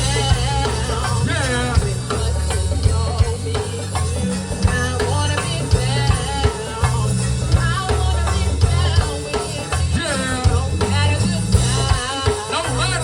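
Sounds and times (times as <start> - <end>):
drum hits: 0.0 - 13.0
gospel band playing: 0.0 - 13.0
loud bass line: 0.0 - 13.0
person singing: 0.0 - 13.0.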